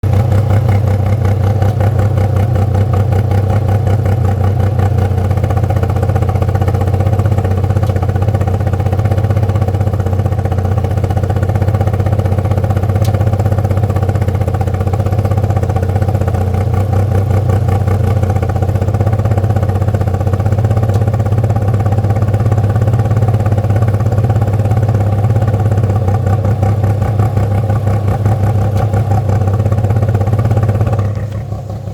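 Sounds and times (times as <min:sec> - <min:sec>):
car engine running steadily: 0:00.0 - 0:31.9.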